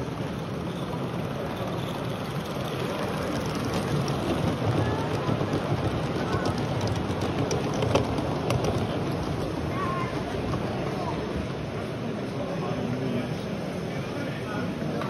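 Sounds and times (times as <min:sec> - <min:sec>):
crowd talking indistinctly: 0:00.0 - 0:15.0.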